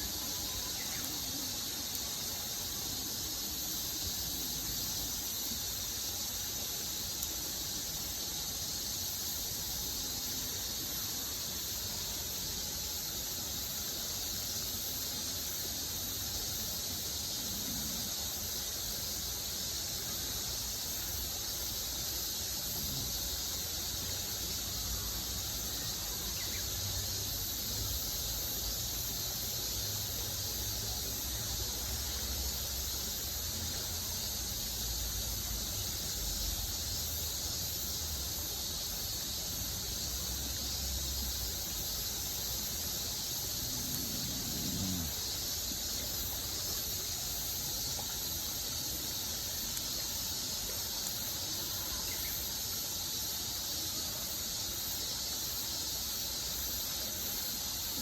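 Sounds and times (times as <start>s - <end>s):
high insect chorus: 0.0s - 58.0s.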